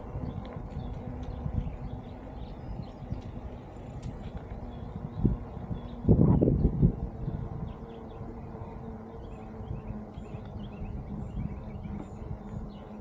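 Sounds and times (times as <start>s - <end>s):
bike rolling on dirt rumble: 0.0s - 13.0s
small birds chirping: 0.0s - 13.0s.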